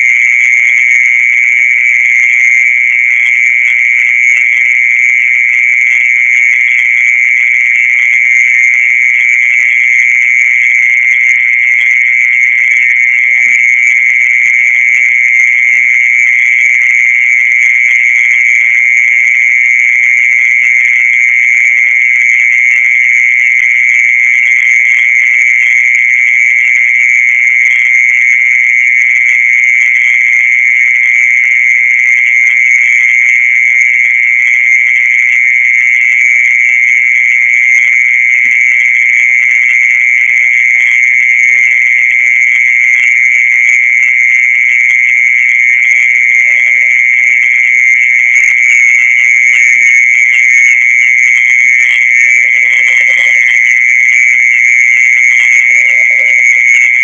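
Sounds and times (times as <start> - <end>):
high-pitched insect trill: 0.0 - 57.0.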